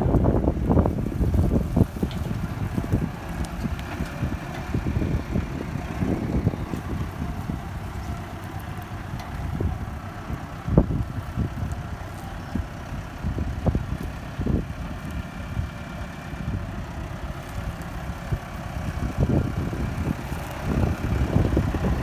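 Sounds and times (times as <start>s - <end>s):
low buffeting bursts: 0.0s - 22.0s
tractor diesel engine running: 0.0s - 22.0s.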